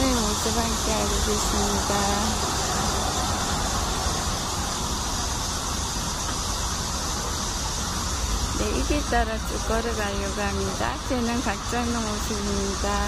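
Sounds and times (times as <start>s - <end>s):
continuous rushing hiss: 0.0s - 13.0s
low rumble: 0.0s - 13.0s.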